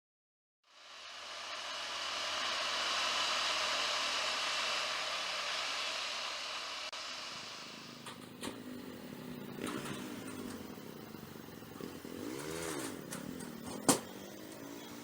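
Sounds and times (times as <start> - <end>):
moving motorbike rushing: 1.9 - 15.0.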